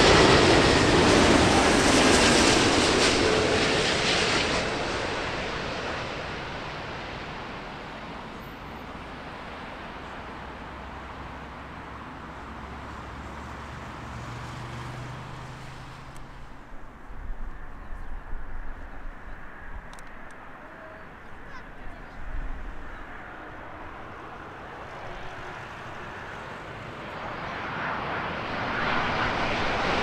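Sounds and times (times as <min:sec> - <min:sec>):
jet airliner engine noise: 0:00.0 - 0:30.0.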